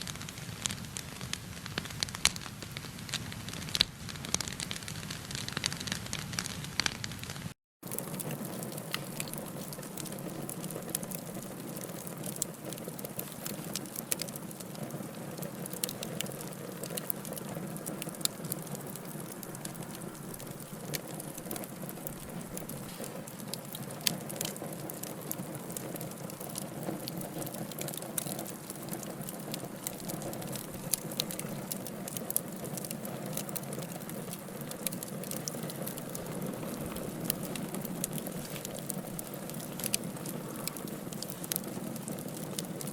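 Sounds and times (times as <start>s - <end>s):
wood fire crackling in fireplace: 0.0s - 42.9s.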